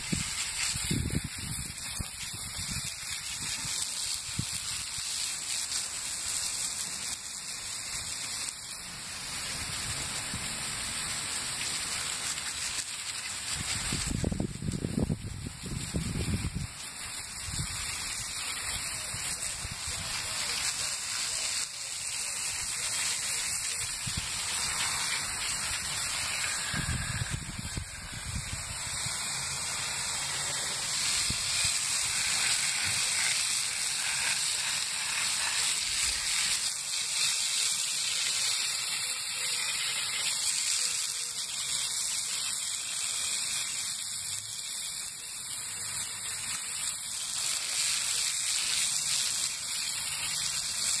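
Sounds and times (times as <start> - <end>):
water hissing on hot coals: 0.0 - 51.0.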